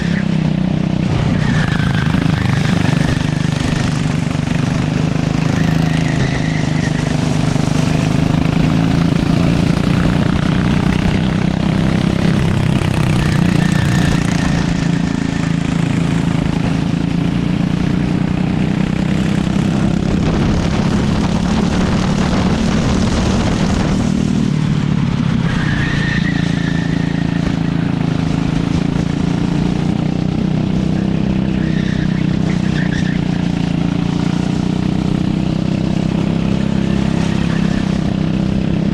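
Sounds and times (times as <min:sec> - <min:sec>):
constant rushing noise: 0:00.0 - 0:38.9
go-kart engine running: 0:00.0 - 0:38.9.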